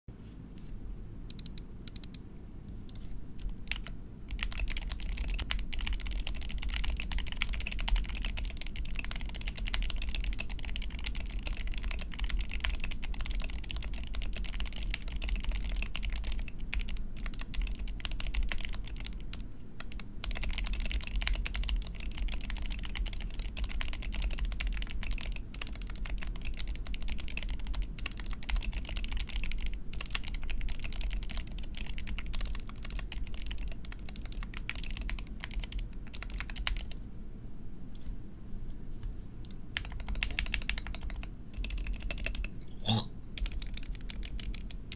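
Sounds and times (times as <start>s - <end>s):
fast typing on mechanical keyboard: 3.4s - 37.0s, 39.7s - 42.5s, 43.4s - 44.9s.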